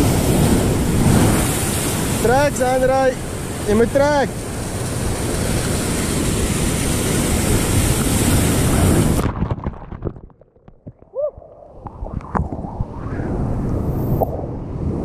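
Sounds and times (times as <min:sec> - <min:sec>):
wind rushing on microphone: 0:00.0 - 0:10.3, 0:11.1 - 0:15.0
surf on rocks: 0:00.0 - 0:13.1.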